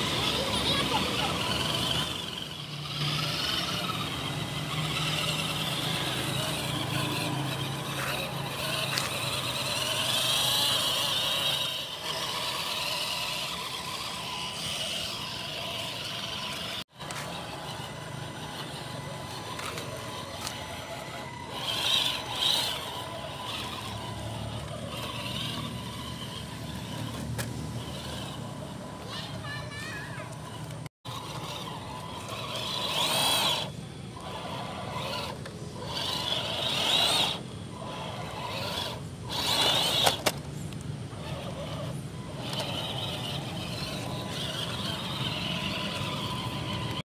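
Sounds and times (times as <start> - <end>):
electric motor whining: 0.0 - 47.0.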